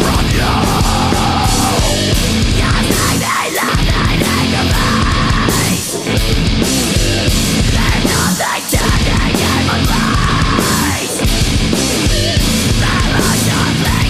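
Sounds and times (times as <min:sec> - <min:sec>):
bass guitar: 0:00.0 - 0:14.0
distorted electric guitars: 0:00.0 - 0:14.0
drum kit: 0:00.0 - 0:14.0.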